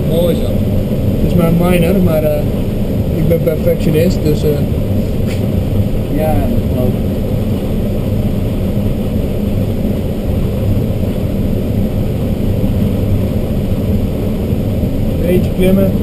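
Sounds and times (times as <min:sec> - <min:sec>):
plane engine drone: 0:00.0 - 0:16.0
rush of airflow: 0:00.0 - 0:16.0.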